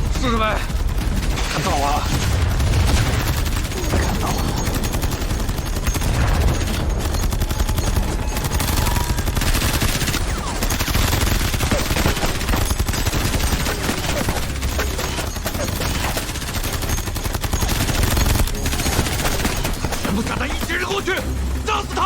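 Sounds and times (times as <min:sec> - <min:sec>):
many guns firing rapidly: 0:00.0 - 0:22.0.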